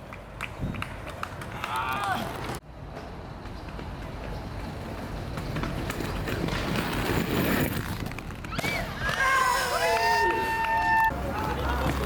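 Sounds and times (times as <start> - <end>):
skate wheels rolling on pavement: 0.0 - 12.0.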